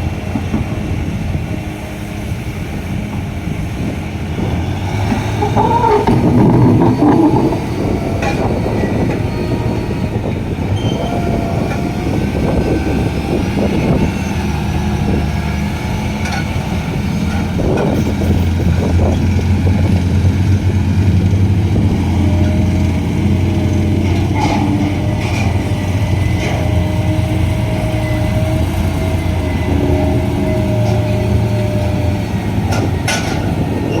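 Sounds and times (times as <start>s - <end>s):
heavy diesel machinery droning: 0.0s - 34.0s.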